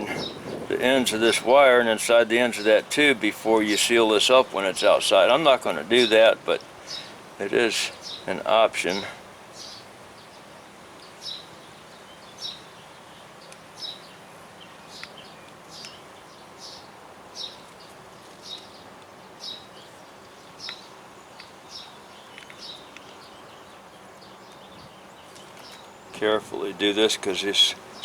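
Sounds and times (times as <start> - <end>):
faint background noise: 0.0 - 28.0.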